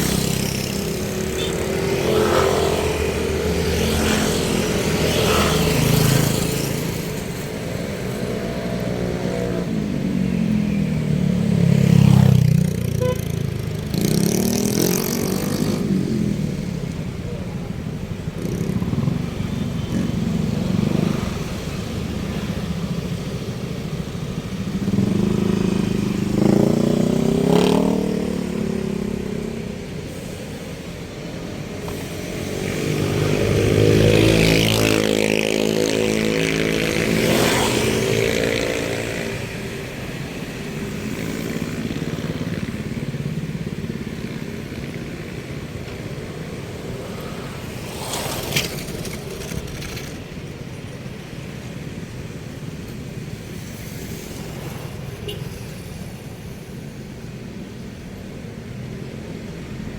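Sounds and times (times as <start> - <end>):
motorcycles passing: 0.0 - 59.9.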